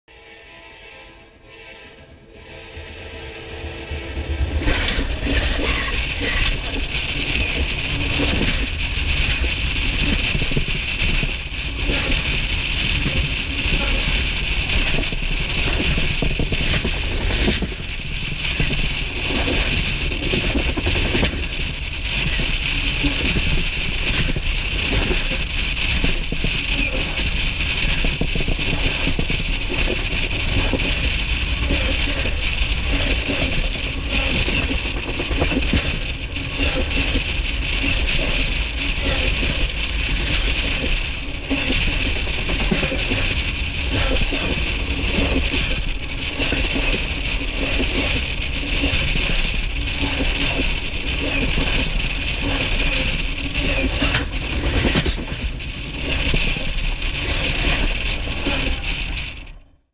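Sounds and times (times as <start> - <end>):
train cars rumbling overhead: 0.1 - 59.9
clicks and clatter: 4.7 - 59.7.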